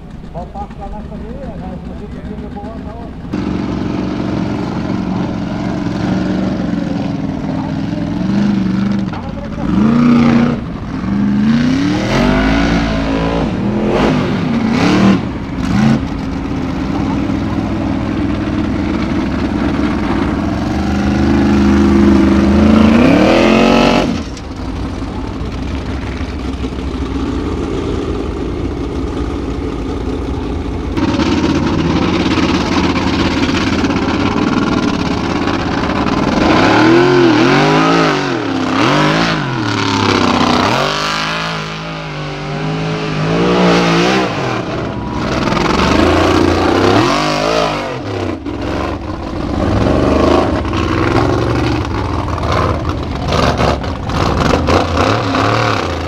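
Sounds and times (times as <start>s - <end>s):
off-road car engines revving: 0.0s - 56.0s.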